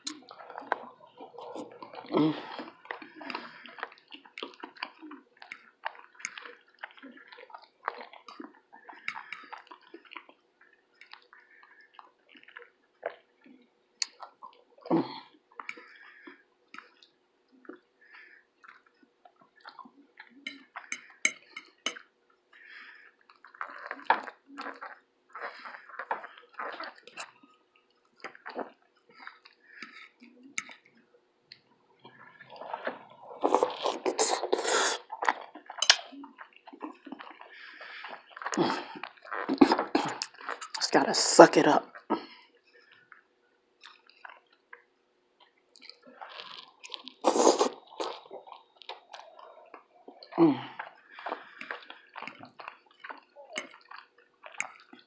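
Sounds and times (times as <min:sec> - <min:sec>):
wet chewing and mouth smacks: 0:00.0 - 0:41.1, 0:41.9 - 0:55.0.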